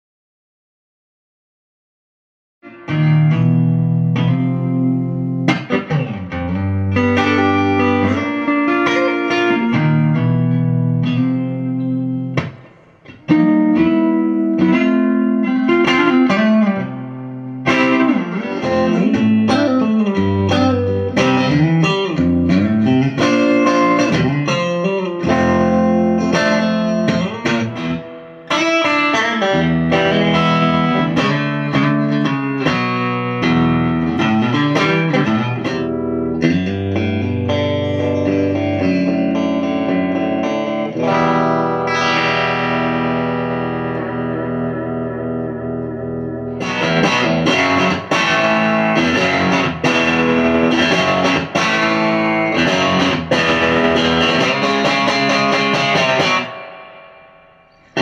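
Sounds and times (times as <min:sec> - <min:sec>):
electric guitar chords and notes: 0:02.6 - 0:58.0.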